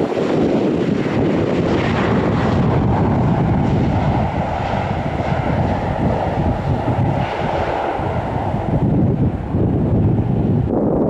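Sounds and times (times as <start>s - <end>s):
jet airliner engine rush: 0.0s - 11.0s
wind buffeting microphone: 0.0s - 11.0s.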